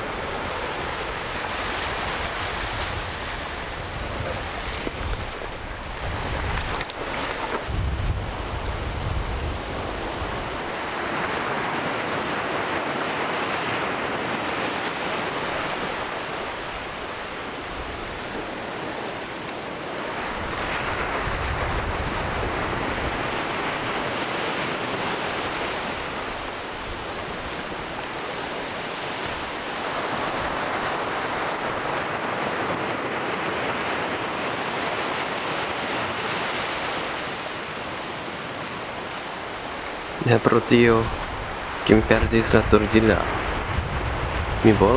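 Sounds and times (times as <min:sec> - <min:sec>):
ocean surf breaking on beach: 0:00.0 - 0:44.9.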